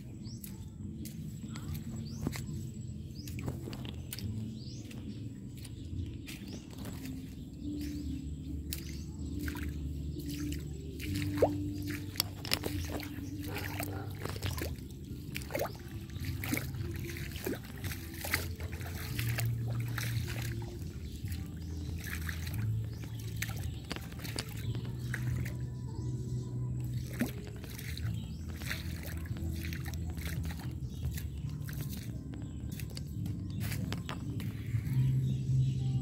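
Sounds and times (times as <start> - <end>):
shallow water trickling and dripping: 0.0 - 36.0.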